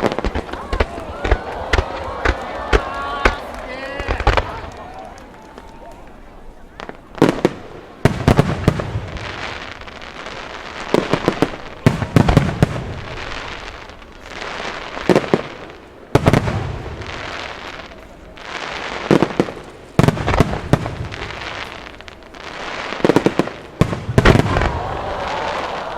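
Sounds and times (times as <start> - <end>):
firework shells booming: 0.0 - 17.9, 18.7 - 25.9.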